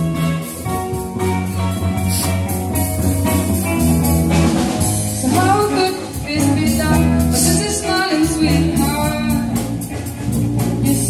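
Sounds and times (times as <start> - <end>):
song with bass and drums: 0.0 - 11.0.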